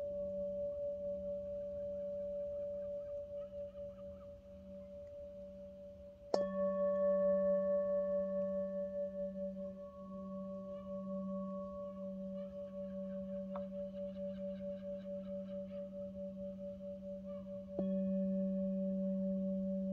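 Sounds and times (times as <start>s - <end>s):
singing bowl ringing: 0.0s - 19.9s.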